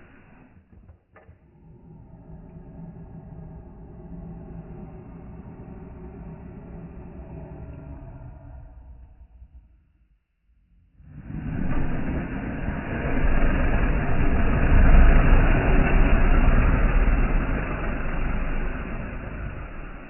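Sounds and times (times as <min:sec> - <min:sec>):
rushing wind with deep rumble: 0:01.4 - 0:10.0, 0:10.6 - 0:20.0.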